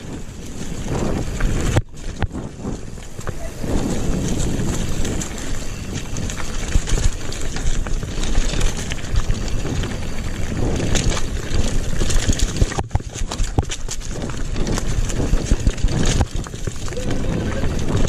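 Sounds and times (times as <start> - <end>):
bike rattling and knocking: 0.0 - 18.0
tyres rolling on dirt: 0.0 - 18.0
wind buffeting microphone: 0.0 - 18.0.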